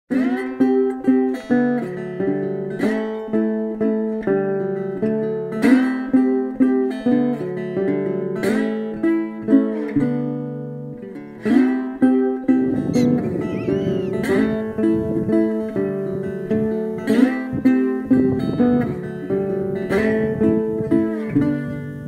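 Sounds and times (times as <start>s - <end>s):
acoustic guitar music: 0.1s - 22.0s.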